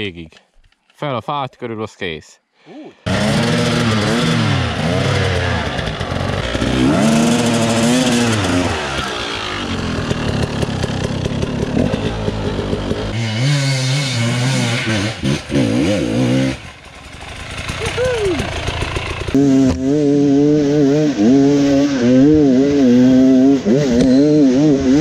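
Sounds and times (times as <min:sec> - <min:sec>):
motorcycle engine revving: 0:03.0 - 0:25.0.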